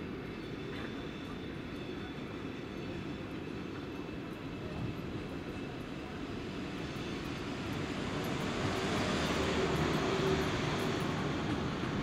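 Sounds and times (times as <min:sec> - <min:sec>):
train wheels rushing on tracks: 0:00.0 - 0:12.0.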